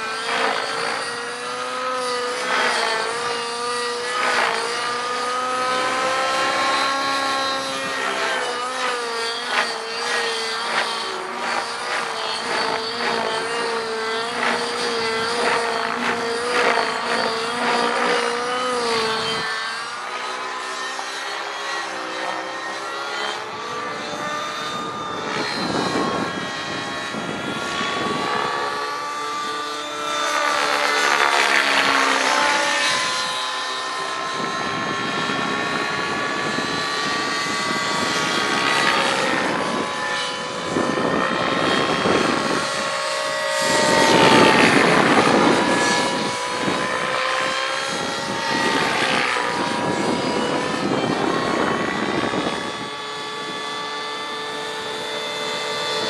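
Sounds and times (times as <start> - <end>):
model helicopter rotor whine: 0.0 - 56.0.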